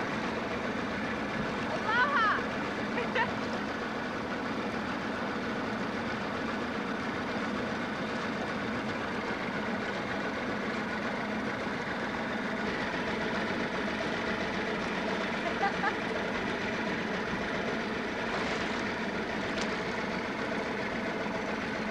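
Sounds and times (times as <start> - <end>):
boat engine running: 0.0 - 21.9
rushing water: 0.0 - 21.9
wind: 0.0 - 21.9.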